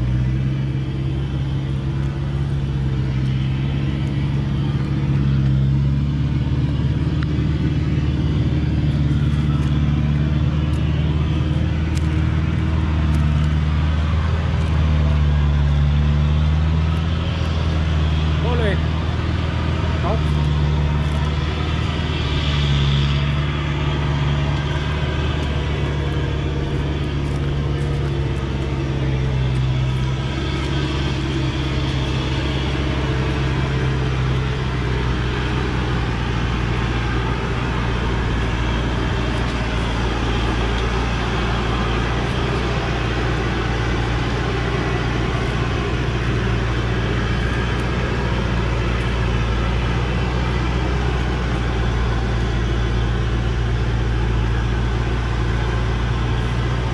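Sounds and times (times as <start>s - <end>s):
diesel truck engine droning: 0.0s - 56.9s.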